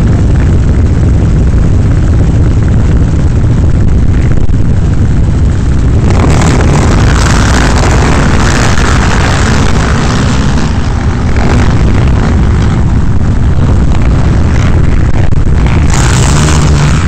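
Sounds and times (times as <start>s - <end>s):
quad bike engines revving: 0.0s - 17.0s.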